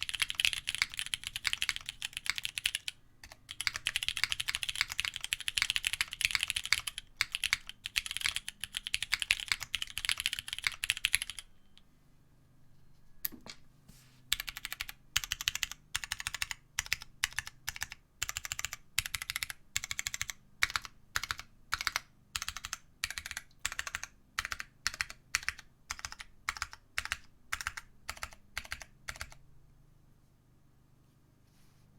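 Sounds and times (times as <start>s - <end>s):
typing on mechanical keyboard: 0.0s - 11.5s, 14.3s - 29.4s.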